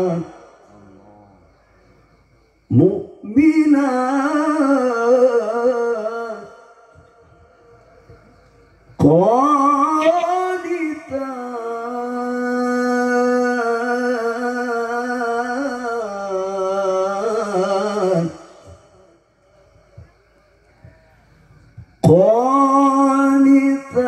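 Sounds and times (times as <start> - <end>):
man reciting melodically through microphone: 0.0 - 2.1, 2.7 - 24.0.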